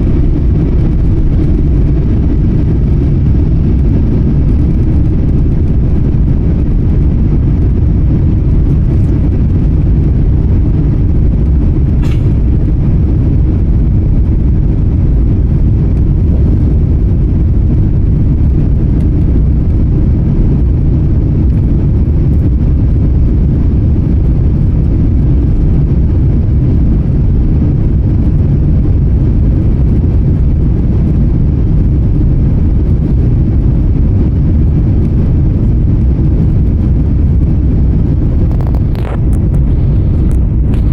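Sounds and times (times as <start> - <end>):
jet engines deep rumble: 0.0 - 40.9
rushing air: 0.0 - 40.9.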